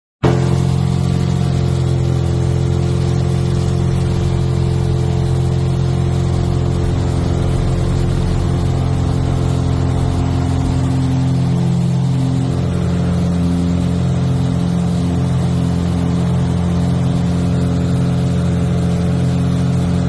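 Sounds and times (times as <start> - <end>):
propeller aircraft engine drone: 0.2 - 20.0.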